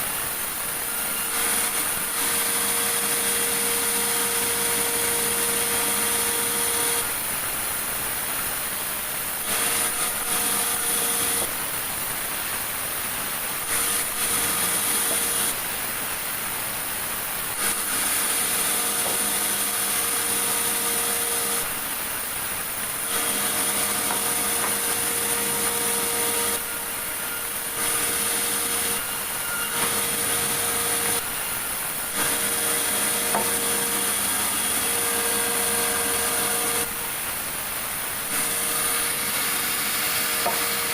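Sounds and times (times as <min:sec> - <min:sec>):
sawmill saw cutting logs: 0:00.0 - 0:40.9.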